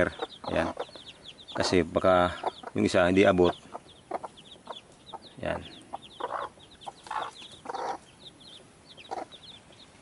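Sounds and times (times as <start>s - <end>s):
chicks peeping: 0.0s - 10.0s
hen clucking: 0.0s - 10.0s.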